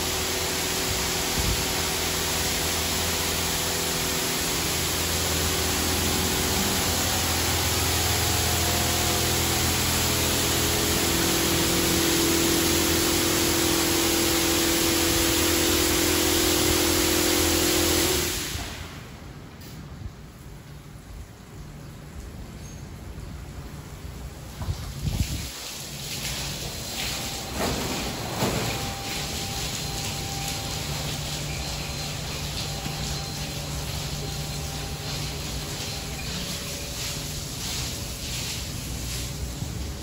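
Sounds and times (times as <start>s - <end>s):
steady machinery tone: 0.0s - 19.2s, 26.7s - 40.0s
high-pressure water spray hissing: 0.0s - 19.8s, 24.6s - 40.0s
pump humming: 0.0s - 22.1s, 23.5s - 40.0s.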